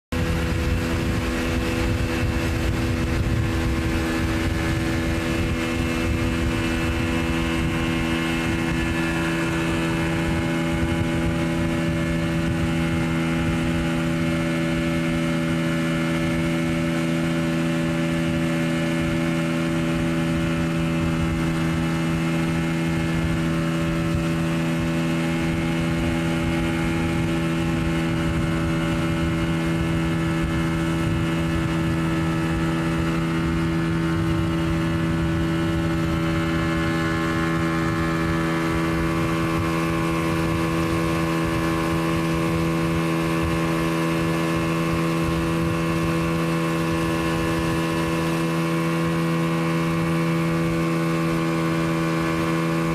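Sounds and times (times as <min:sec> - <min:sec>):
outboard motor droning: 0:00.0 - 0:52.9.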